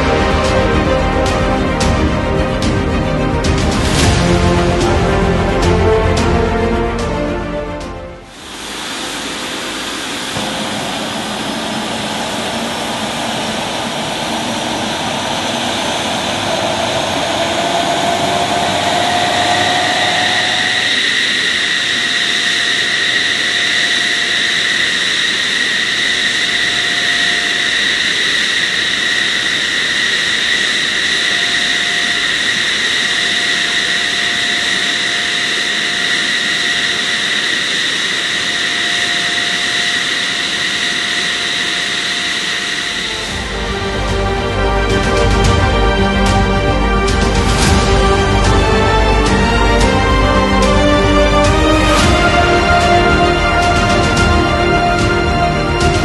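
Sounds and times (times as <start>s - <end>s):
jet engine whine: 0.0s - 56.0s
jet engines rushing: 0.0s - 56.0s.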